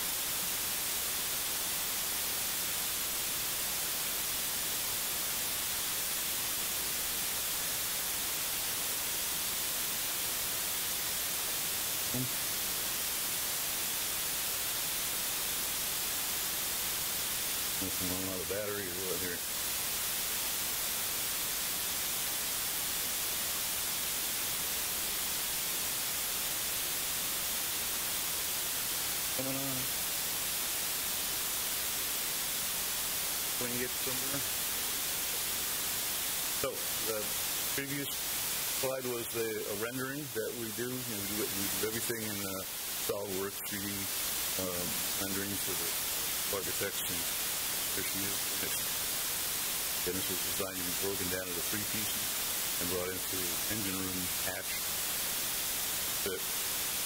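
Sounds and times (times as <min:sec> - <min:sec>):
steady recording hiss: 0:00.0 - 0:57.0.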